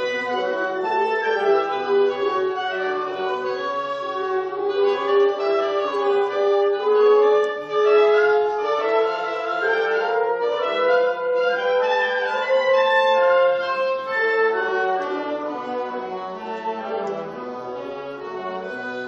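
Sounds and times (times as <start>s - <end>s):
wind ensemble chamber music: 0.0s - 19.0s.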